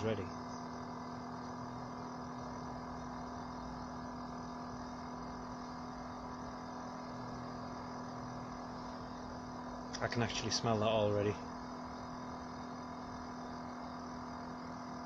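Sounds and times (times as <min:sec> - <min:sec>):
espresso machine pump humming: 0:00.0 - 0:15.0.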